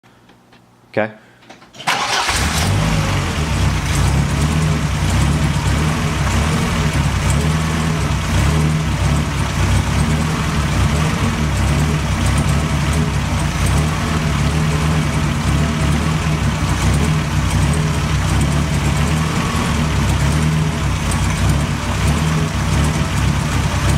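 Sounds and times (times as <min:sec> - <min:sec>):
car engine idling roughly: 0:01.9 - 0:23.9.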